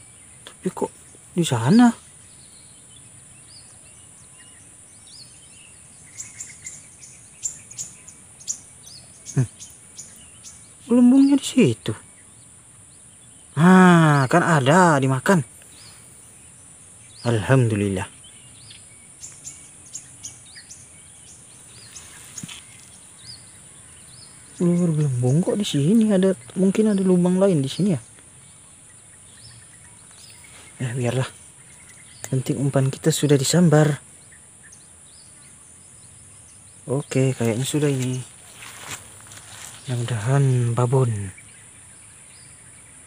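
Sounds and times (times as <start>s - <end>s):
bird chirps: 0.0s - 43.0s.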